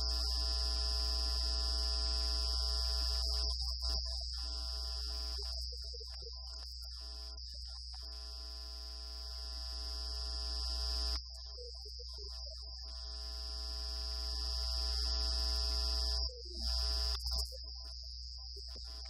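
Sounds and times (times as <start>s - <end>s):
electronic drone of held tones: 0.0s - 19.0s.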